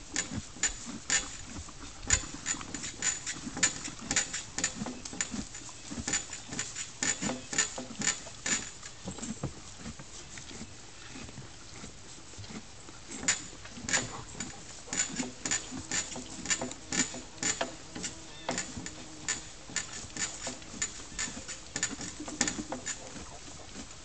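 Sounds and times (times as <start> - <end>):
horse crunching feed: 0.0 - 24.0.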